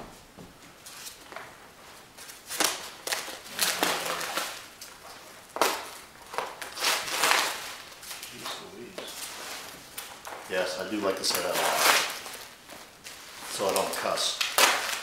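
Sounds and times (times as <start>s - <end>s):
plastic packaging crinkling: 2.2s - 15.0s.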